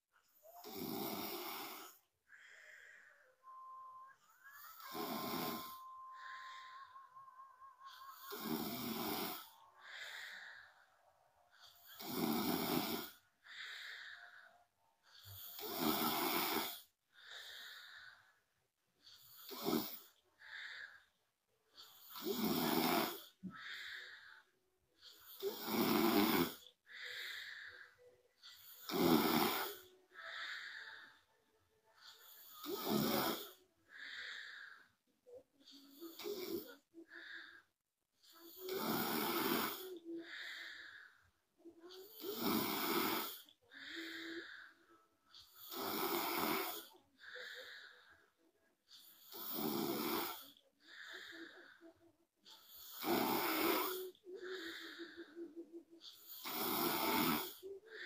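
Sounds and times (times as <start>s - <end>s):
soft breathing: 0.1s - 58.0s
woman snoring: 0.3s - 18.4s, 19.1s - 24.5s, 25.1s - 31.4s, 32.0s - 58.0s.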